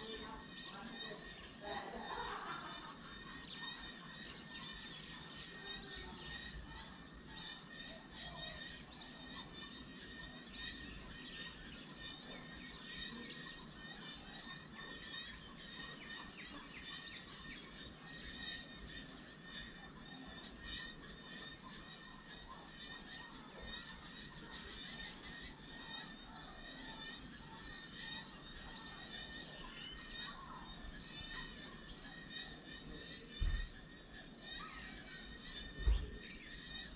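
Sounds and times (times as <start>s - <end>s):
birds chirping: 0.0s - 36.9s
faint background noise: 0.0s - 36.9s.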